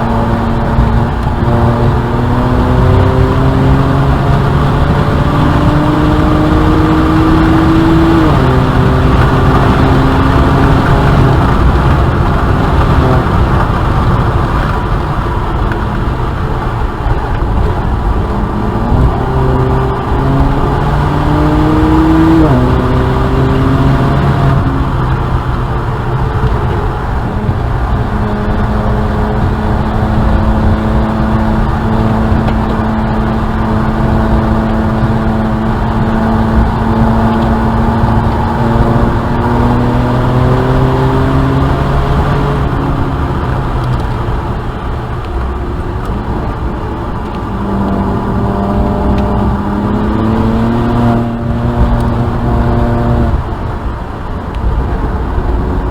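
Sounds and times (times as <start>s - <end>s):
car engine revving: 0.0s - 55.9s
road and wind noise: 0.0s - 55.9s.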